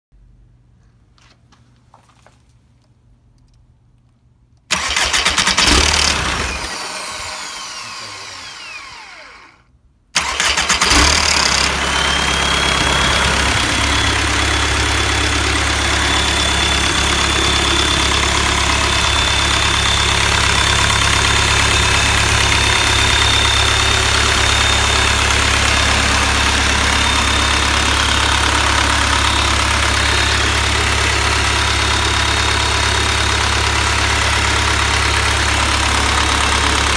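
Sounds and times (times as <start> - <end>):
diesel engine starting and idling: 4.7 - 36.9.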